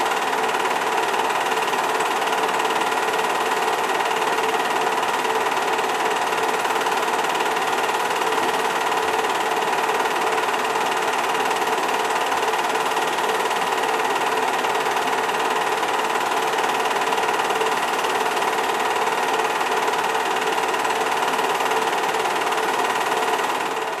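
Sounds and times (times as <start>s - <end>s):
film projector whirring: 0.0s - 24.0s.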